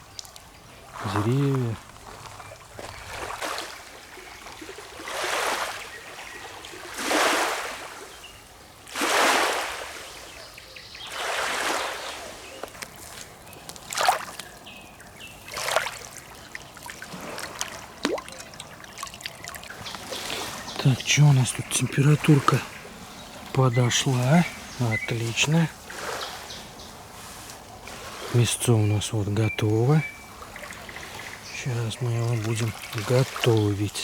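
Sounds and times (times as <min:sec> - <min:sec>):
water splashes: 0:00.0 - 0:08.2, 0:08.8 - 0:10.4, 0:11.0 - 0:34.0
waves lapping against bank: 0:00.0 - 0:34.0.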